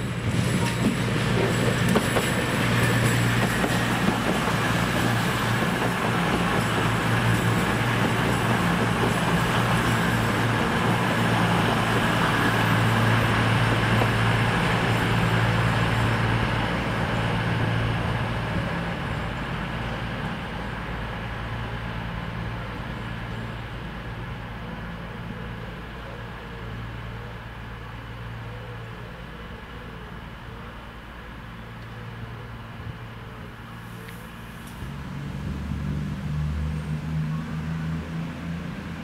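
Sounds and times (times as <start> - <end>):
train diesel engines humming: 0.0 - 39.0
wheels rumbling on rail: 0.0 - 39.0.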